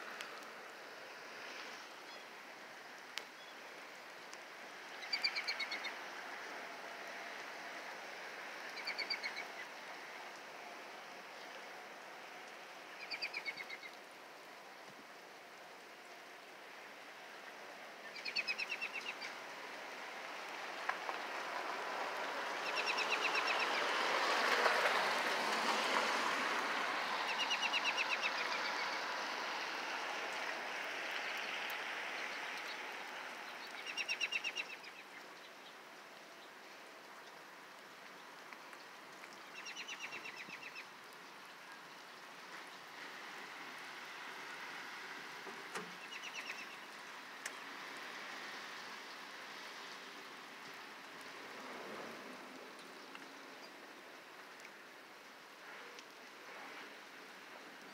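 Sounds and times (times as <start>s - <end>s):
rain on wet pavement: 0.0s - 57.9s.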